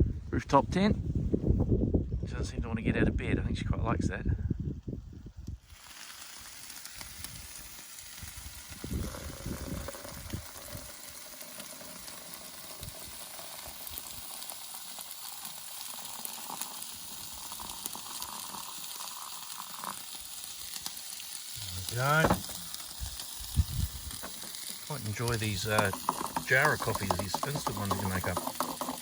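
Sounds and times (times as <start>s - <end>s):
food sizzling in pan: 5.6s - 29.0s.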